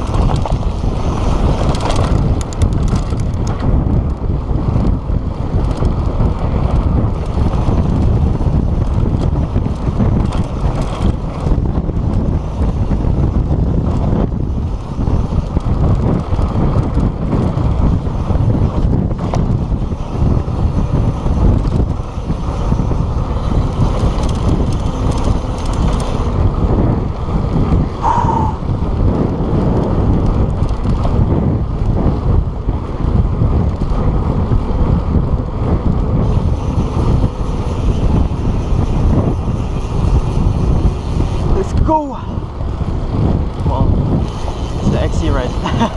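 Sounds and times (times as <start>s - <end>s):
tyres rumbling on dirt: 0.0s - 45.9s
wind buffeting microphone: 0.0s - 45.9s.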